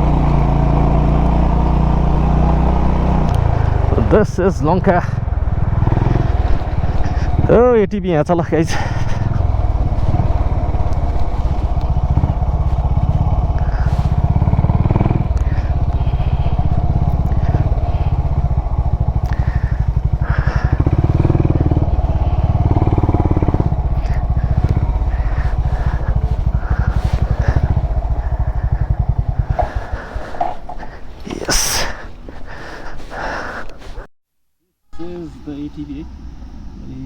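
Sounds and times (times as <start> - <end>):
motorcycle engine running: 0.0 - 34.1, 35.0 - 37.0.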